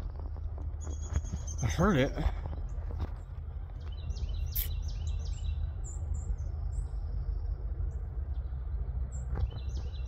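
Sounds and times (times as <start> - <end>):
birds chirping: 0.0 - 10.0
steady low rumble: 0.0 - 10.0.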